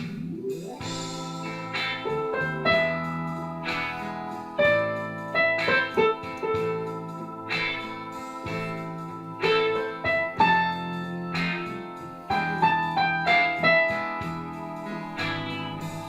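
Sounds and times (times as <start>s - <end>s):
digital piano chords and melody: 0.0s - 16.0s.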